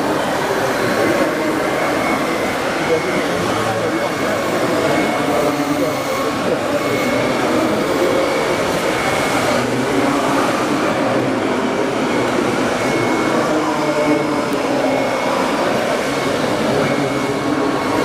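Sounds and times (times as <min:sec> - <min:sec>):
din of a busy hall: 0:00.0 - 0:18.0.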